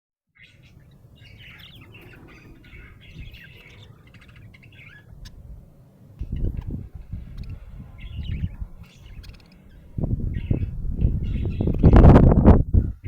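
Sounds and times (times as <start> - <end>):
budgerigar chirping: 0.4 - 12.1
low rumble: 0.9 - 13.0.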